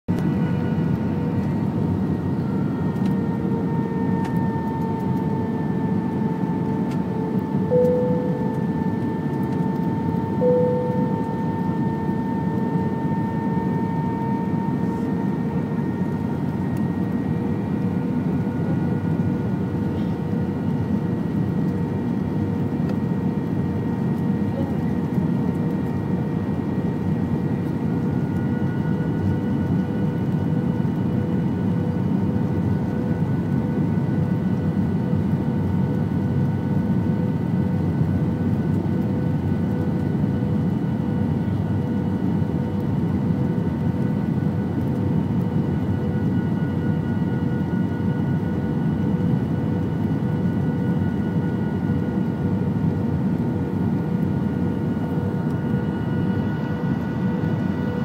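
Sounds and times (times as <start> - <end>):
jet engine whine: 0.1 - 58.0.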